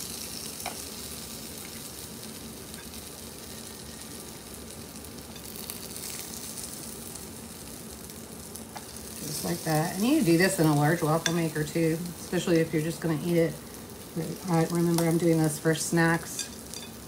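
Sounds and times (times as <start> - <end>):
batter sizzling in waffle maker: 0.0 - 17.0.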